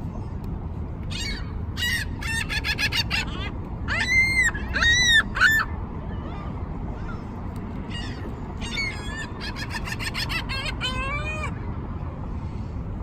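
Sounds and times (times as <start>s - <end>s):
steady low rumble: 0.0s - 13.0s
gulls calling: 1.0s - 12.0s.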